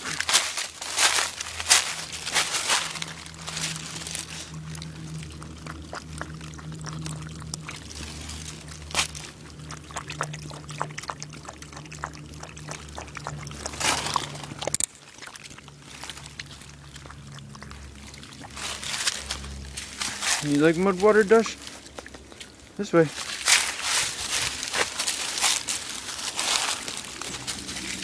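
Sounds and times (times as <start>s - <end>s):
dog lapping water: 0.0s - 28.0s
rustling and splashing: 0.0s - 28.0s.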